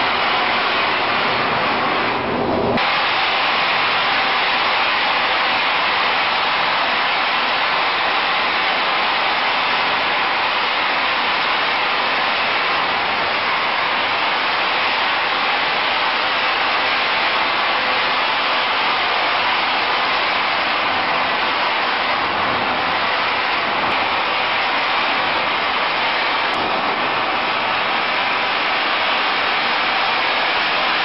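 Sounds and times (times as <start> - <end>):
industrial vacuum system running: 0.0 - 31.0.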